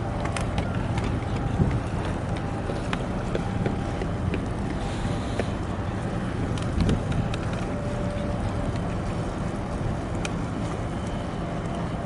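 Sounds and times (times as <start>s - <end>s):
wind on microphone: 0.0s - 10.6s
low steady rumble: 0.0s - 12.0s.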